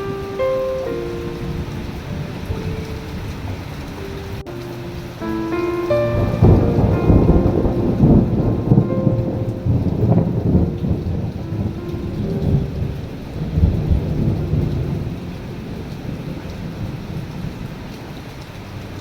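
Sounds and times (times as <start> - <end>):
rolling thunder: 0.0 - 19.0
soft piano notes: 0.0 - 19.0
steady rain: 0.0 - 19.0.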